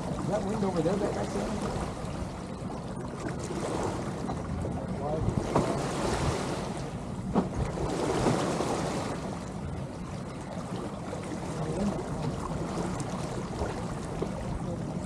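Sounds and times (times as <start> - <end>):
water washing along hulls: 0.0 - 15.0
wind rumbling on microphone: 0.0 - 15.0.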